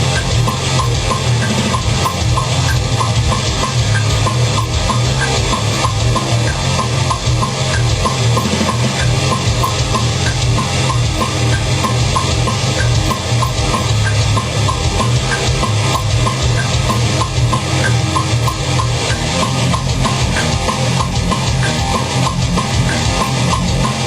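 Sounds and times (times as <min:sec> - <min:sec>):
heavy metal music: 0:00.0 - 0:24.0
regular high tick: 0:00.0 - 0:24.0.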